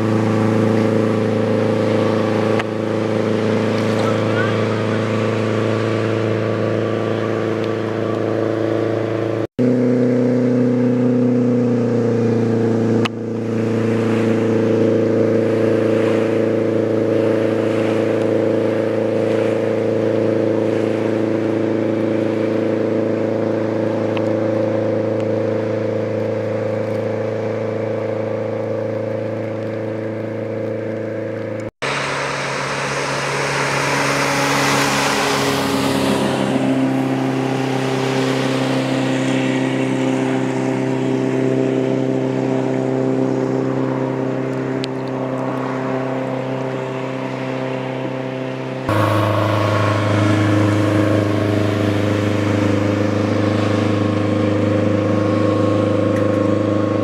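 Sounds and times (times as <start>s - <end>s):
rush of spray: 0.0s - 57.0s
speedboat engine: 0.0s - 57.0s.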